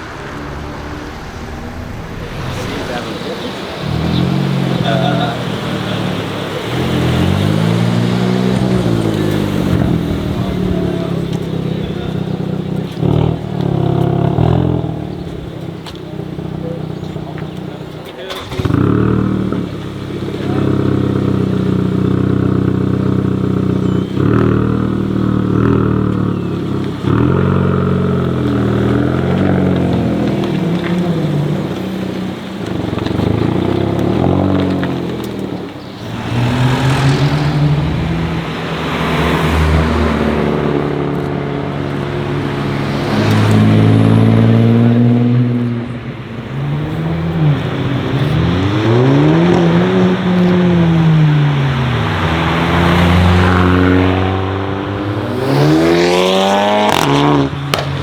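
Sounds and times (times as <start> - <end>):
car engine revving and accelerating: 0.0 - 58.0.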